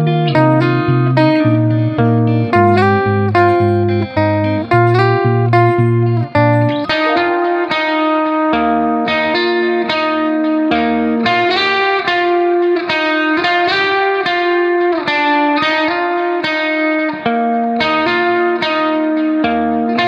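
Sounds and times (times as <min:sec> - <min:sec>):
plucked-string melody: 0:00.0 - 0:20.0.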